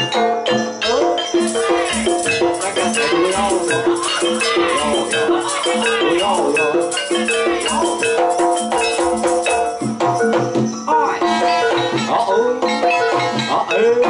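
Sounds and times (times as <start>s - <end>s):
drumming: 0.0s - 13.7s
metallophone notes: 0.0s - 14.0s
rattling percussion: 0.0s - 14.0s.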